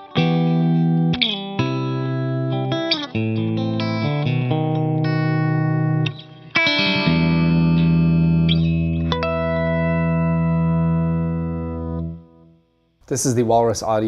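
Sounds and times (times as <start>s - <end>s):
electric guitar chords ringing: 0.0s - 13.0s.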